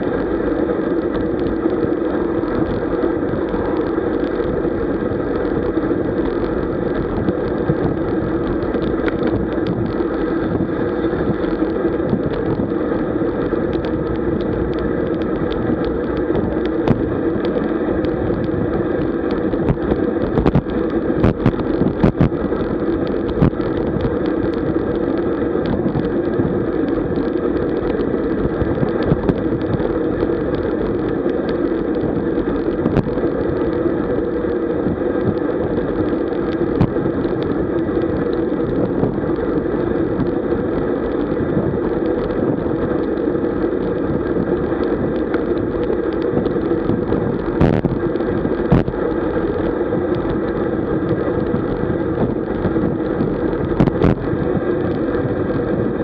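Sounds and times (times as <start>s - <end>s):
bicycle tyre and road noise: 0.0s - 56.0s
wind on microphone: 0.0s - 56.0s.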